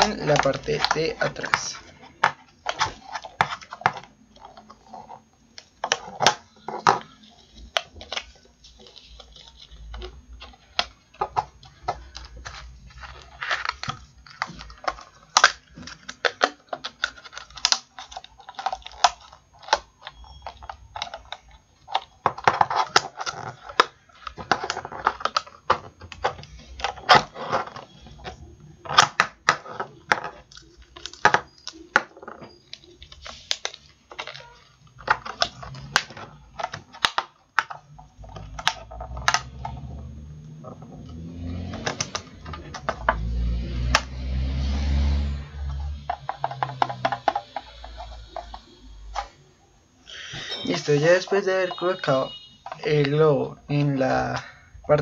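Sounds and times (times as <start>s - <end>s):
plastic bottle and balloon crinkling: 0.0s - 55.0s.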